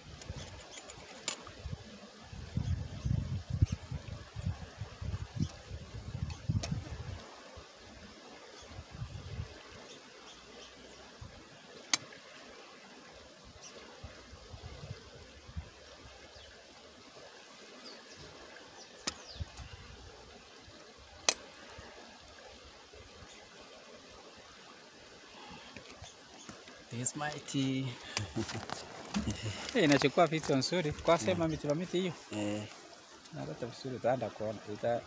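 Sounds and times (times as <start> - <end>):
river rushing: 6.8 - 35.0.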